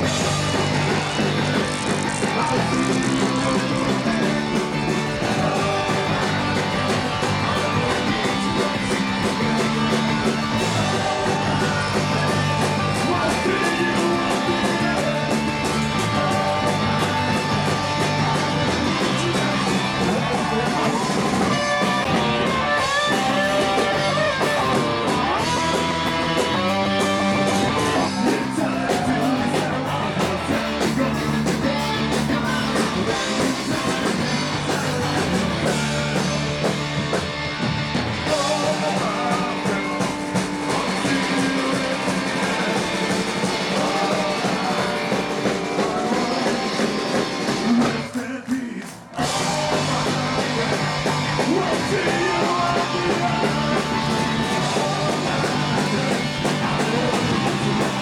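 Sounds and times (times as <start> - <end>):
electric guitar: 0.0 - 48.2, 49.1 - 58.0
live ska band: 0.0 - 48.3, 49.1 - 58.0
drum kit: 0.0 - 58.0.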